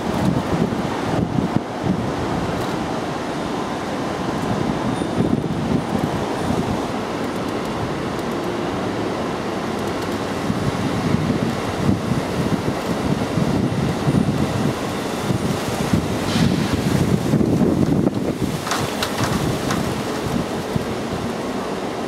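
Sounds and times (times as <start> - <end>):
wind buffeting microphone: 0.0 - 8.2, 10.1 - 21.5.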